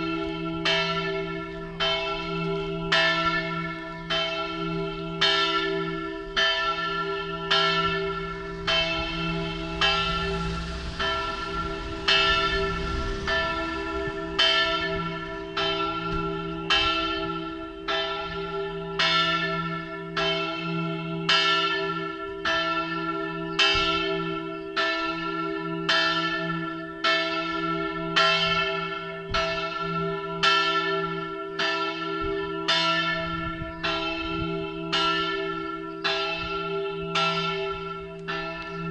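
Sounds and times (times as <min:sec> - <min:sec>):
large church bell ringing: 0:00.0 - 0:38.9.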